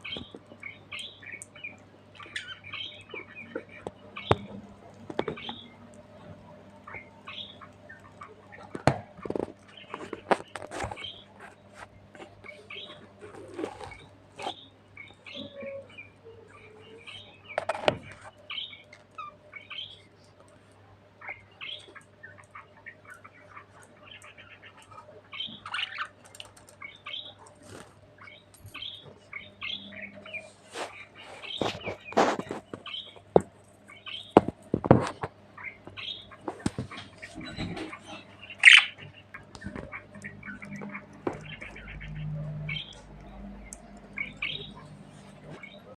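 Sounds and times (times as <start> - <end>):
budgerigars chirping and chattering: 0.0 - 20.4, 21.2 - 45.9.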